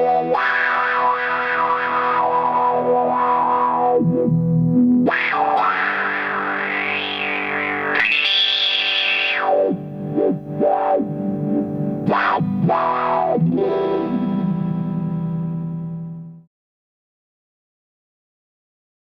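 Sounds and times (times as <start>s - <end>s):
distorted electric guitar chord: 0.0s - 16.4s.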